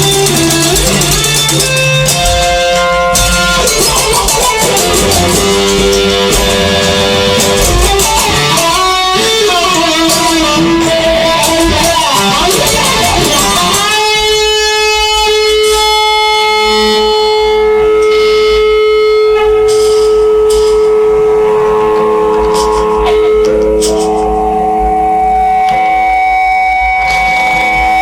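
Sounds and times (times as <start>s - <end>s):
lead guitar playing: 0.0s - 28.0s.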